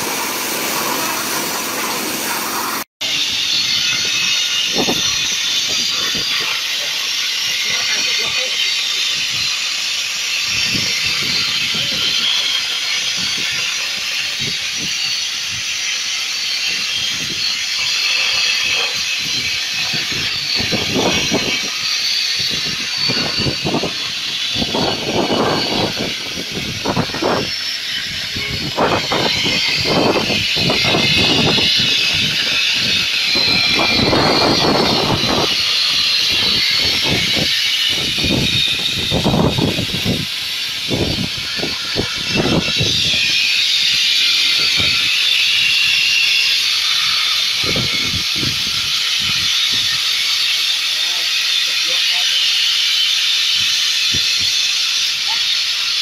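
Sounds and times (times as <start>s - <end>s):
plasma torch hissing: 0.0s - 56.0s.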